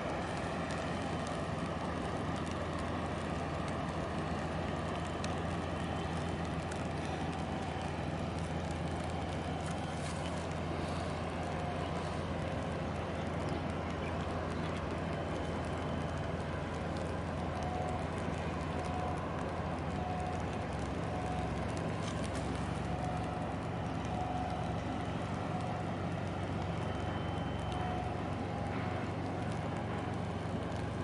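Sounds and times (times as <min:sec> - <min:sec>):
ship diesel engine drone: 0:00.0 - 0:31.0.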